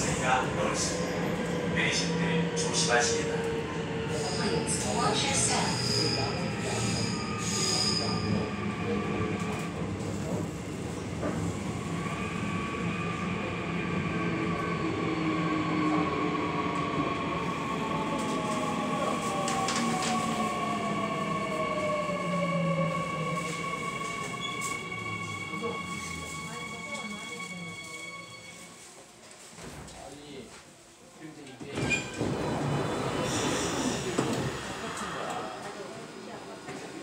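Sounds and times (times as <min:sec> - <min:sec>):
subway train rumbling on rails: 0:00.0 - 0:30.0, 0:30.8 - 0:37.0.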